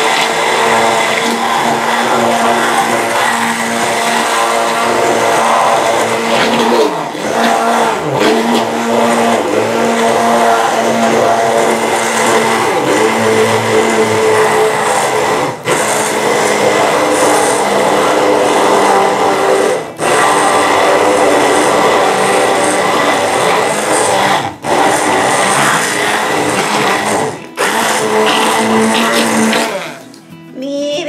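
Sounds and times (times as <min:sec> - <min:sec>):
immersion blender motor whine: 0:00.0 - 0:30.2.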